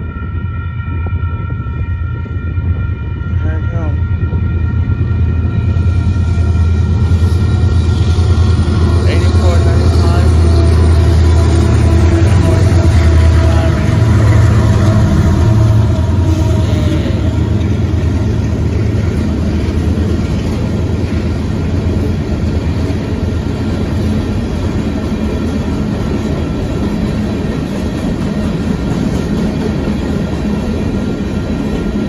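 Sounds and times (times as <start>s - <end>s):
diesel locomotive engines rumbling: 0.0s - 32.0s
train cars rolling on rails: 3.4s - 32.0s.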